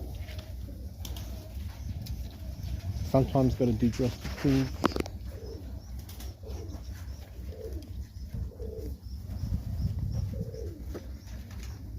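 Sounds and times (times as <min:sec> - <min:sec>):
pigeons cooing: 0:00.0 - 0:11.9
steady low rumble: 0:00.0 - 0:11.9.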